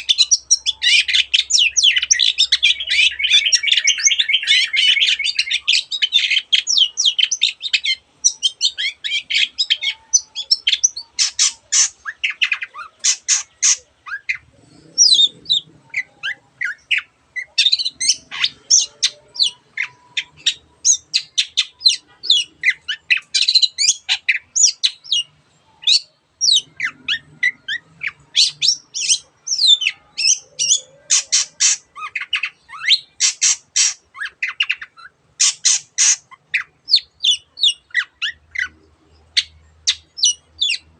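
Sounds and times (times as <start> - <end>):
shrike singing: 0.0 - 35.9.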